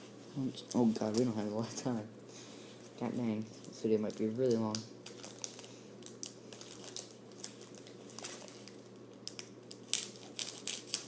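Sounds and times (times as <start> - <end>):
plastic wrapper crinkling: 0.5 - 1.6, 3.0 - 11.0.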